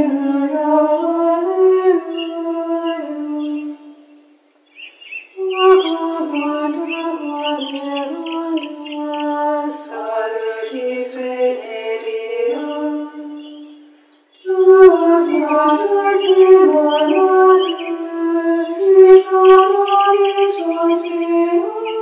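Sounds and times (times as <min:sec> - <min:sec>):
women singing a chant: 0:00.0 - 0:04.0, 0:05.4 - 0:13.8, 0:14.4 - 0:22.0.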